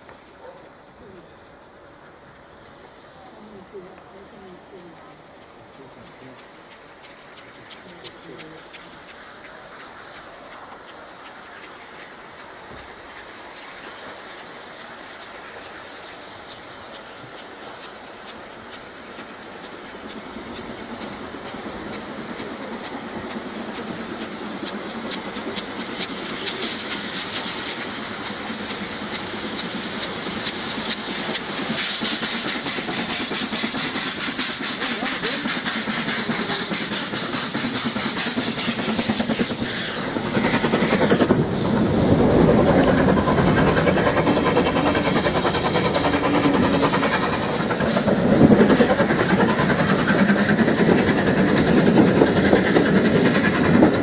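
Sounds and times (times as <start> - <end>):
steam locomotives exhaust and hiss: 0.0 - 54.0.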